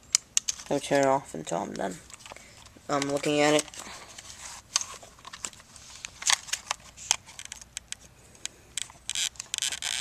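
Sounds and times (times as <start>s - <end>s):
plastic camcorder being handled: 0.4s - 1.1s, 1.7s - 8.1s, 8.8s - 10.0s.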